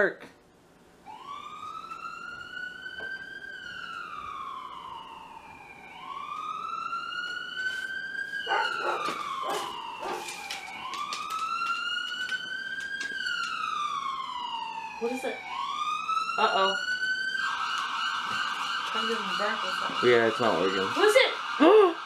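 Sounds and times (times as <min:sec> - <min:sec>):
ambulance siren wailing: 0:01.0 - 0:22.0.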